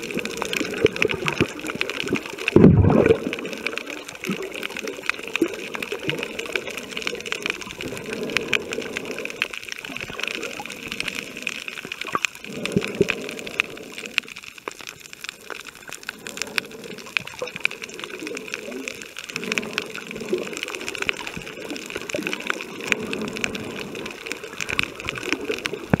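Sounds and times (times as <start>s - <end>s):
crackle of tiny clicks underwater: 0.0s - 26.0s
muffled water rushing: 0.0s - 26.0s.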